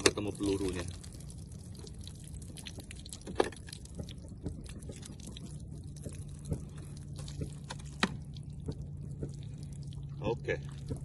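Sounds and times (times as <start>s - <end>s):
plastic water jug crinkling: 0.0s - 11.0s.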